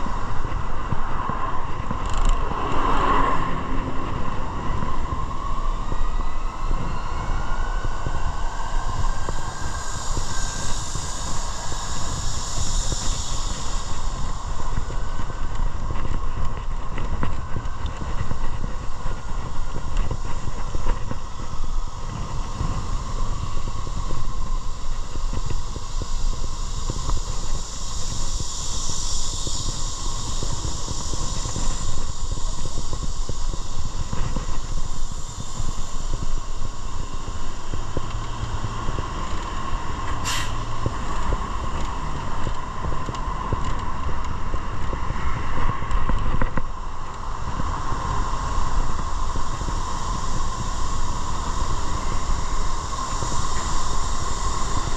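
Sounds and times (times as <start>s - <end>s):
faint gliding whine: 0.0s - 54.9s
vehicle rumble and wind noise: 0.0s - 54.9s.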